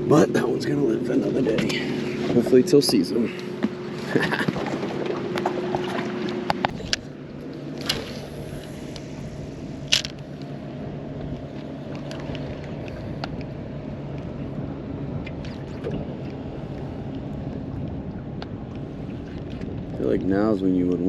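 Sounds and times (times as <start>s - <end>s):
water washing: 0.0s - 14.5s, 15.2s - 21.0s
wind: 0.0s - 21.0s.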